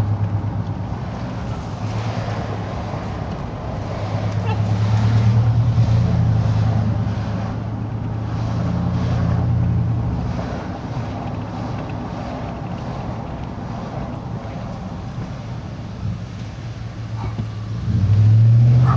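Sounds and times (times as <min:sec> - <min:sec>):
car engine and road hum: 0:00.0 - 0:18.9.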